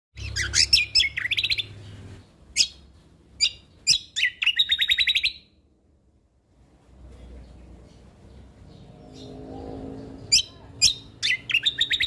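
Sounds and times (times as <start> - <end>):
songbird chirps and trills: 0.2 - 5.7, 6.6 - 12.0.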